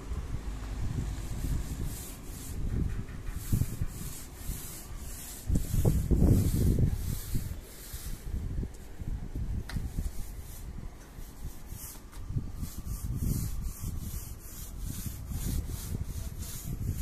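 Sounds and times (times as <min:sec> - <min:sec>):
paint roller rubbing on tiles: 0:01.2 - 0:09.0, 0:09.9 - 0:17.0.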